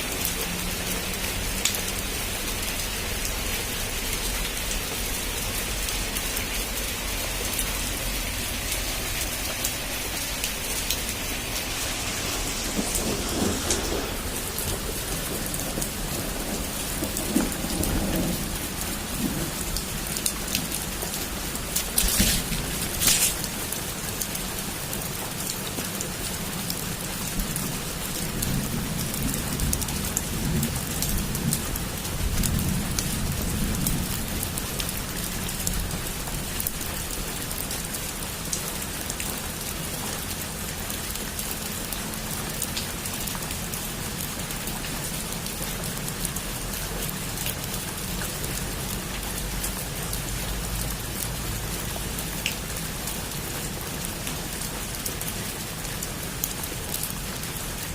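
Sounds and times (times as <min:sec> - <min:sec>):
heavy rain on a roof: 0:00.0 - 0:57.9.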